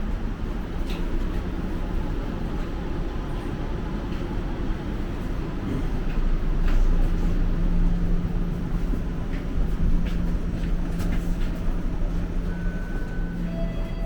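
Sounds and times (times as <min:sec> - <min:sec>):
streetcar rumbling on rails: 0:00.0 - 0:14.0.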